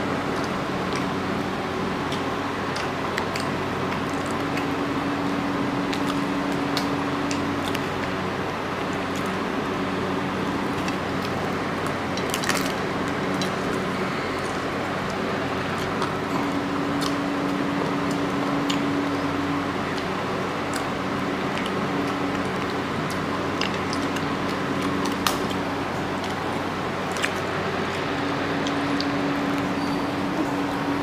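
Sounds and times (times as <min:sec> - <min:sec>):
steady mechanical hum: 0:00.0 - 0:31.0
eating clicks and squishes: 0:00.2 - 0:31.0
chewing: 0:00.3 - 0:01.3, 0:02.0 - 0:08.2, 0:08.8 - 0:09.4, 0:10.5 - 0:30.9.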